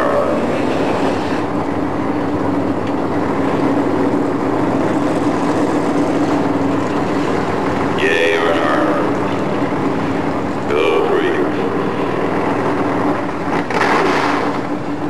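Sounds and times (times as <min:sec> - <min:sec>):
engine at steady high revs: 0:00.0 - 0:15.0.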